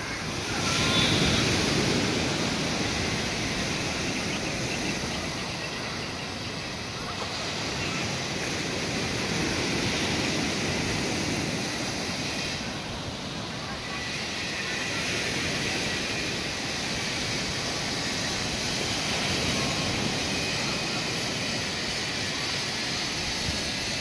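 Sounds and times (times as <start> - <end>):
surf washing onto beach: 0.0 - 24.0.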